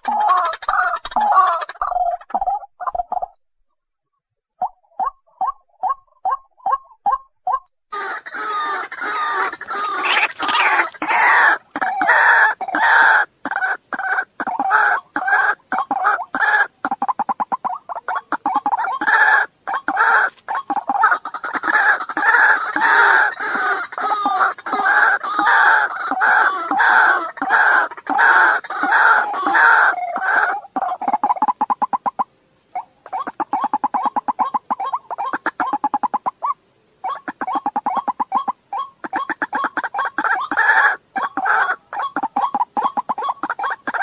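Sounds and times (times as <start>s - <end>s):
waterhen calling harshly: 8.0s - 44.0s.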